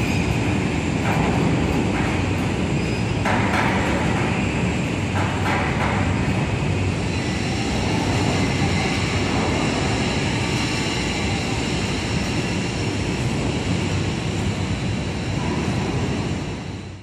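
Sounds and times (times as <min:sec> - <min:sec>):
machinery rumble and hiss: 0:00.0 - 0:17.0.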